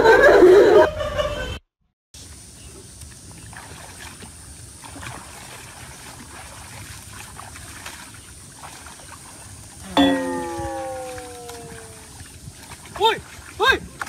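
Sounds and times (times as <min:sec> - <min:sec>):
water splashing and trickling: 0:02.2 - 0:14.0.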